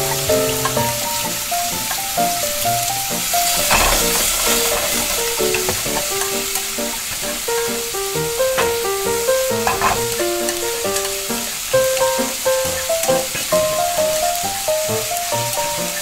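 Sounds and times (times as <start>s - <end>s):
background melody: 0.0s - 16.0s
batter frying in oil: 0.0s - 16.0s.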